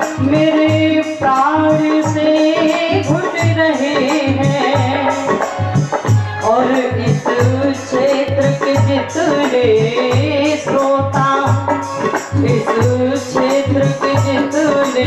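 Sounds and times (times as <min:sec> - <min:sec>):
woman singing into a microphone: 0:00.0 - 0:15.0.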